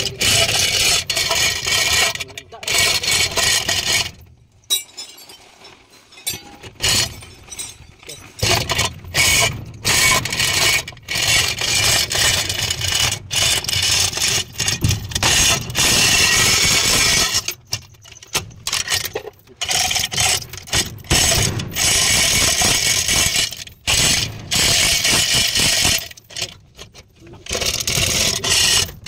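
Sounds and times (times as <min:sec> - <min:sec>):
steel chain rattling: 0:00.0 - 0:29.0.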